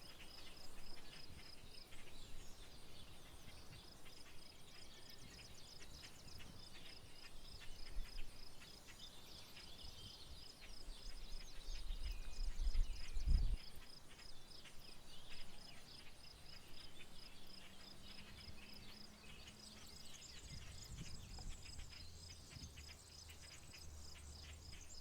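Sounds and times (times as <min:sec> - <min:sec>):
wild bird song and calls: 0:00.0 - 0:25.0.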